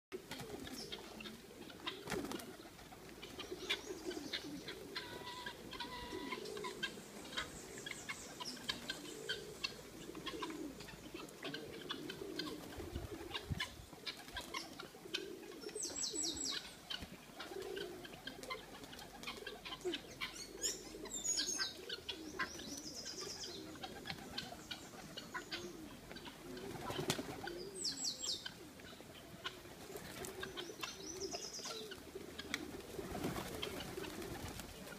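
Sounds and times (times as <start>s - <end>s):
pigeons cooing: 0.2s - 34.9s.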